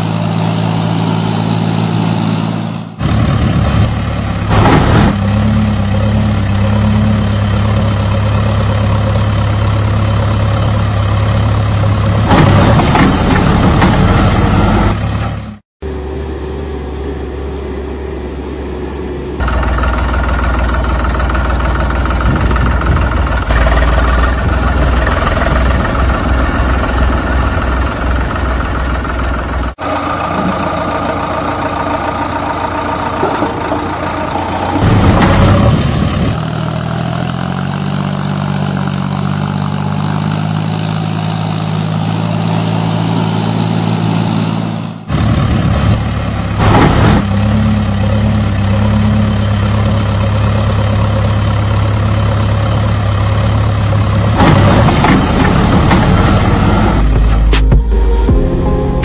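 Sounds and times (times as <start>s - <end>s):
digger engine idling: 0.0s - 15.6s, 19.4s - 44.3s, 45.0s - 57.8s
tractor engine running: 0.0s - 59.0s.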